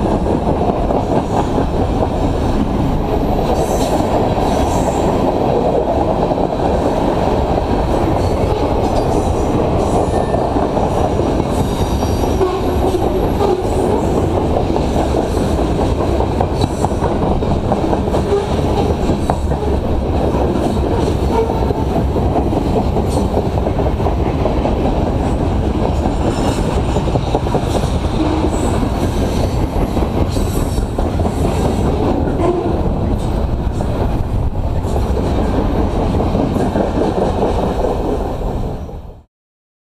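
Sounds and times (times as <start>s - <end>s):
freight train wheels rumbling: 0.0s - 39.3s.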